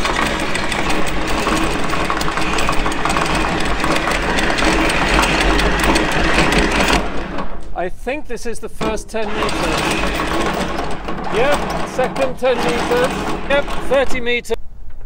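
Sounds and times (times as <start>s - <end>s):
windlass motor running: 0.0s - 7.6s, 8.8s - 14.6s
anchor chain rattling: 0.0s - 7.7s, 8.8s - 14.5s.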